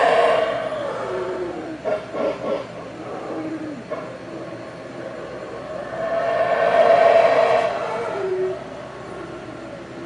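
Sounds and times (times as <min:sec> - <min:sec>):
howler monkeys howling: 0:00.0 - 0:10.0.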